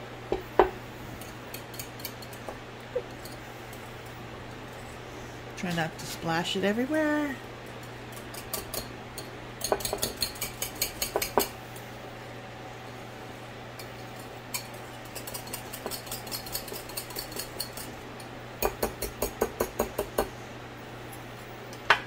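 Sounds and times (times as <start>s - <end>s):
kitchen fan hum: 0.0s - 22.0s.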